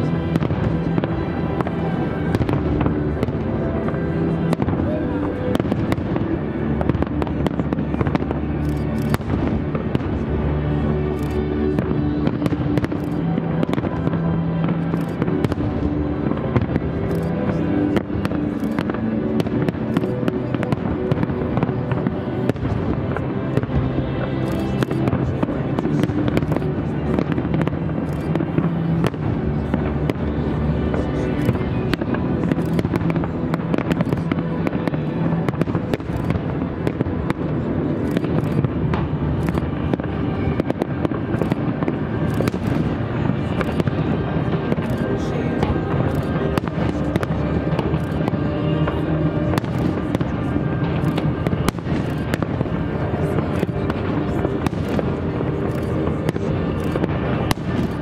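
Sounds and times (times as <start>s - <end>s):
music playing: 0.0s - 58.0s.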